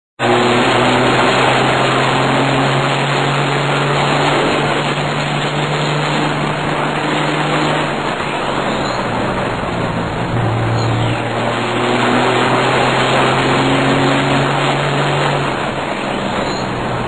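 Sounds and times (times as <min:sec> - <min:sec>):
diesel truck engine running hard: 0:00.2 - 0:17.0
road and wind noise: 0:00.2 - 0:17.0.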